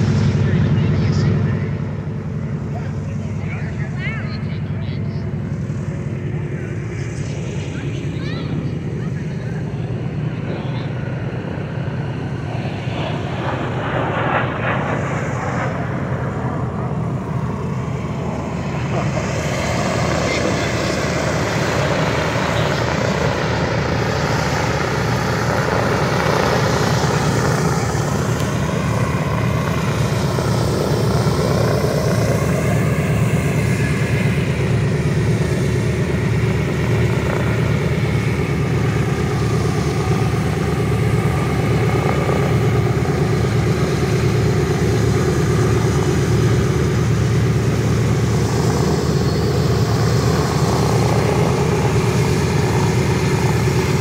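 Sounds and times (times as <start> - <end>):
propeller aircraft engines droning: 0.0 - 54.0.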